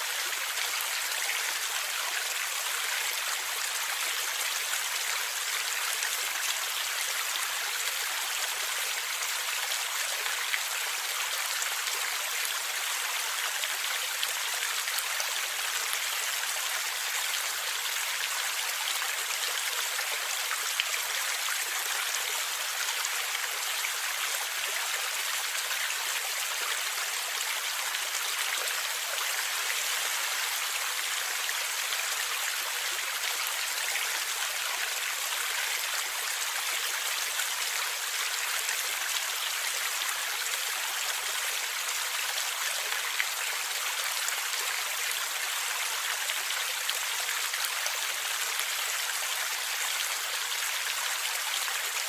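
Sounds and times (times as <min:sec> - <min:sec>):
stream water gurgling: 0:00.0 - 0:52.0.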